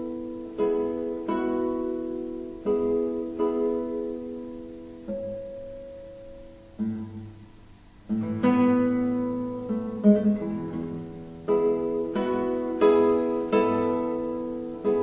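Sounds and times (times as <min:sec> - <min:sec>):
classical guitar chords: 0:00.0 - 0:15.0.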